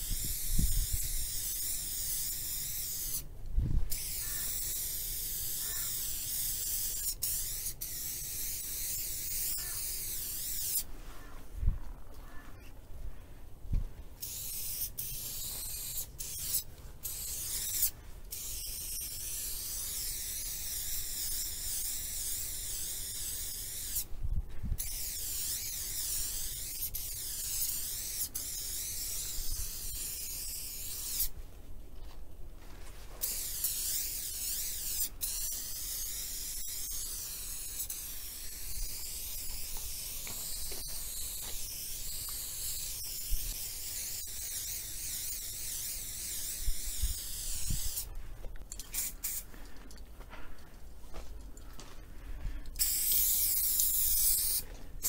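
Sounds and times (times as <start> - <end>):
spray can hissing: 0.0 - 3.3, 3.9 - 10.9, 14.2 - 24.1, 24.8 - 31.4, 33.1 - 48.1, 48.7 - 49.5, 52.7 - 54.7.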